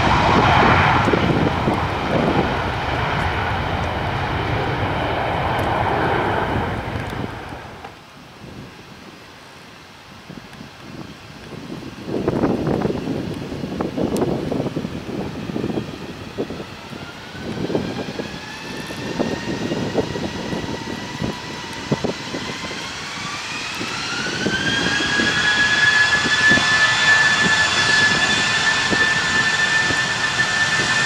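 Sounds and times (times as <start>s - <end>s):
jet engines spooling up: 0.0s - 8.0s, 11.5s - 31.0s
wind buffeting microphone: 0.0s - 9.1s, 10.2s - 31.0s.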